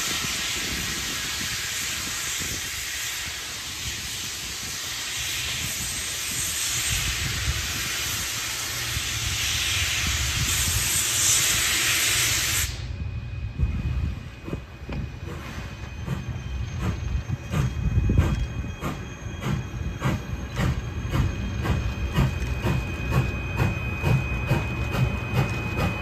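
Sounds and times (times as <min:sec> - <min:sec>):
steam locomotive venting steam: 0:00.0 - 0:26.0.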